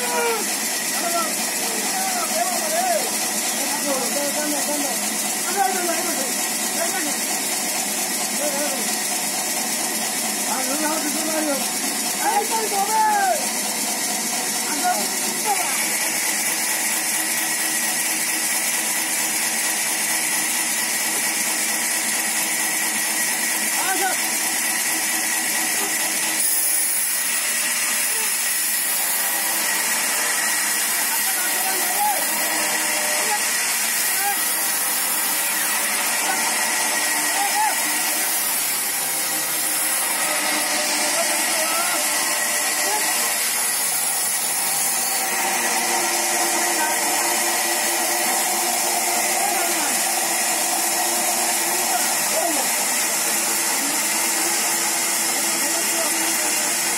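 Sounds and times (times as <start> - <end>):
band saw hissing with high whine: 0.0 - 56.9.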